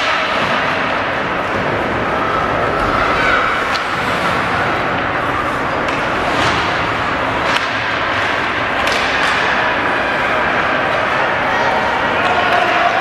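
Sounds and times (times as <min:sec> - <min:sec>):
hockey sticks and puck clacks: 0:00.0 - 0:01.6, 0:02.8 - 0:13.0
rink and spectators hubbub: 0:00.0 - 0:13.0.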